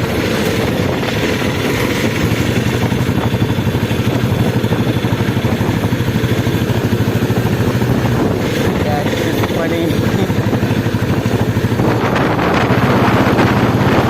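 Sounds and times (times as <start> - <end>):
motorcycle engine thumping: 0.0 - 14.0.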